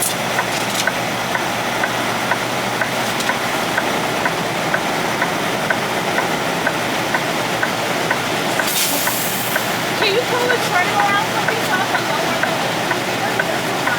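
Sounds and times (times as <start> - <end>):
sharp regular ticking: 0.0 - 13.9
truck engine idling: 0.0 - 13.9.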